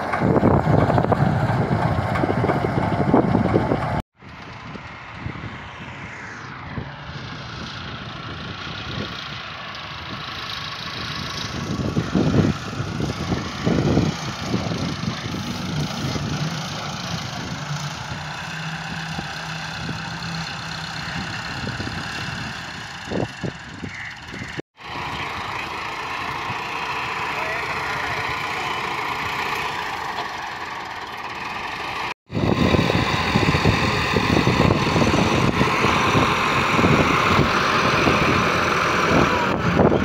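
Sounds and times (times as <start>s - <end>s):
tractor diesel engine running: 0.0s - 5.6s, 7.1s - 40.0s.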